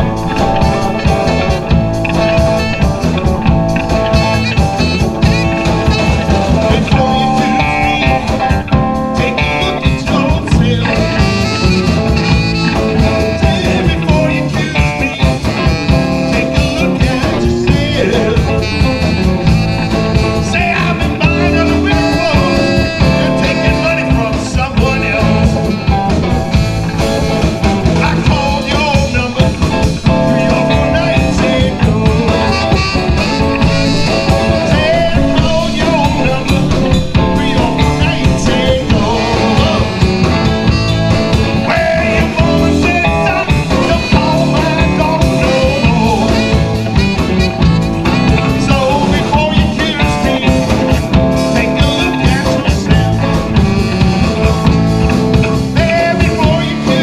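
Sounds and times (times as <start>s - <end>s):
drum kit: 0.0s - 57.0s
electric guitar: 0.0s - 57.0s
saxophone: 0.0s - 57.0s.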